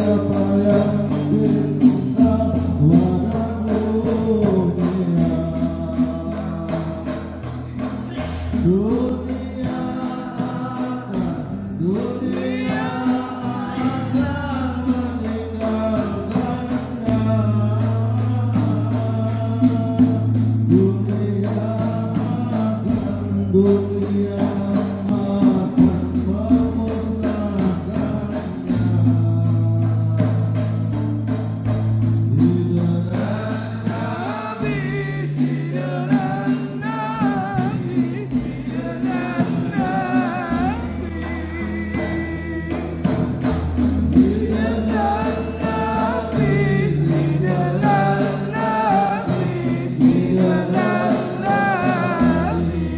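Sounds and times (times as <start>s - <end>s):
group singing devotional song: 0.0s - 52.9s
held bass notes: 0.0s - 52.9s
jingling percussion: 0.0s - 52.9s.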